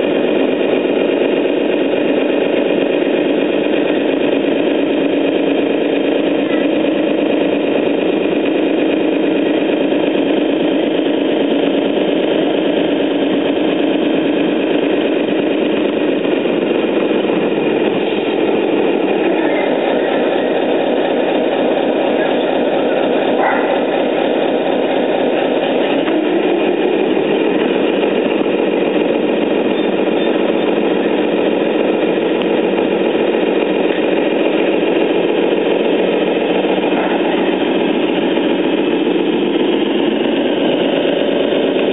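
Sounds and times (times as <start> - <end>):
model truck engine drone: 0.0 - 41.9.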